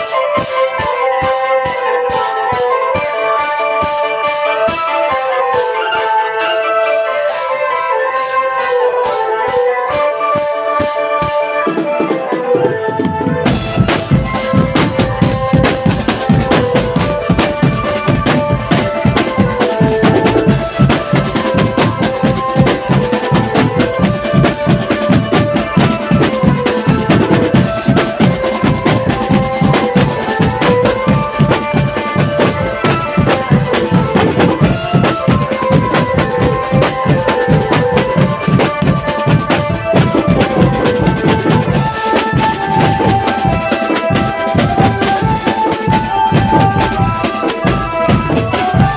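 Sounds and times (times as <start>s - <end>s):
marching drum band playing: 0.0s - 48.9s
melody over drumming: 0.0s - 48.9s.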